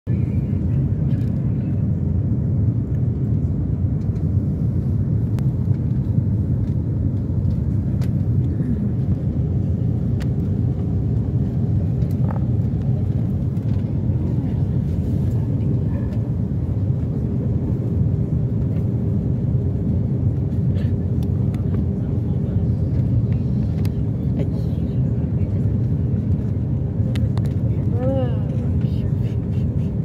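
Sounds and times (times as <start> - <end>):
jet airliner cabin rumble: 0.0 - 30.0.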